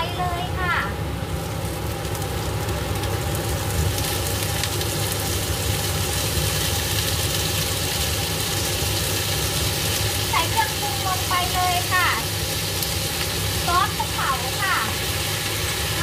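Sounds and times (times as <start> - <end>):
food sizzling in a pan: 0.0 - 16.0
low stove rumble: 0.0 - 16.0.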